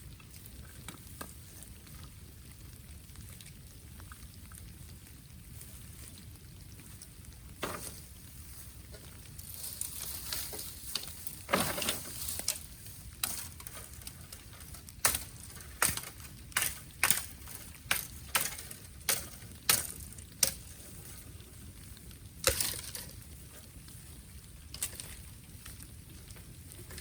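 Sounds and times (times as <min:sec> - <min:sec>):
bamboo cracking and popping in fire: 0:00.0 - 0:27.0
low steady hiss: 0:00.0 - 0:27.0.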